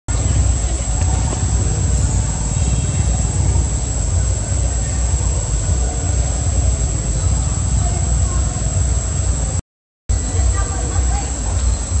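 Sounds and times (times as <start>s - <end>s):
high whine: 0.1s - 12.0s.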